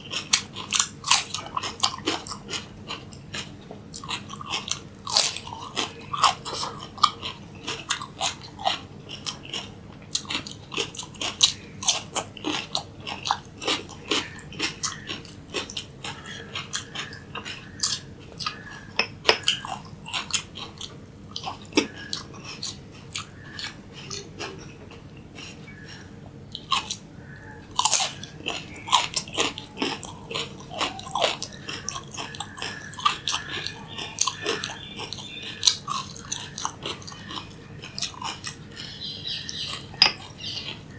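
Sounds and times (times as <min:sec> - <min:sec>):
crunching raw vegetables: 0:00.0 - 0:40.9
soft chewing: 0:00.0 - 0:40.9.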